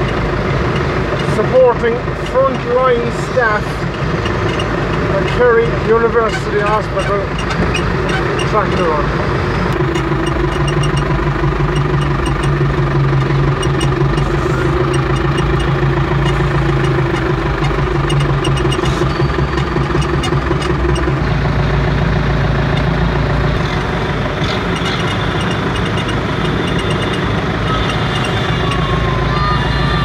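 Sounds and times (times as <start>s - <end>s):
tractor engines droning: 0.0s - 30.0s.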